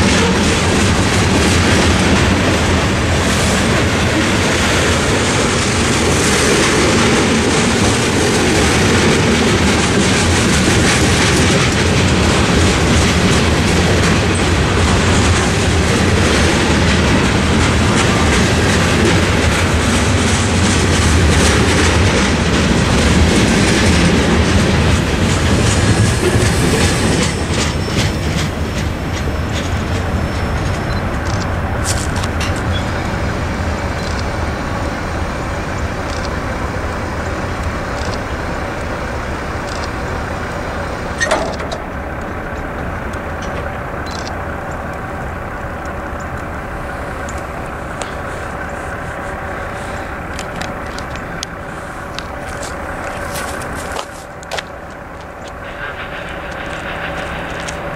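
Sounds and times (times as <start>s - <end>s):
train wheels clicking over rail joints: 0.0s - 57.9s.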